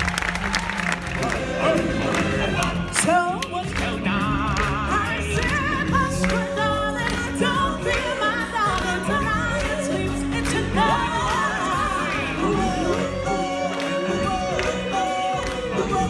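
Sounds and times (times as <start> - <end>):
amplified backing band: 0.0 - 16.0
singers with vibrato: 1.0 - 16.0.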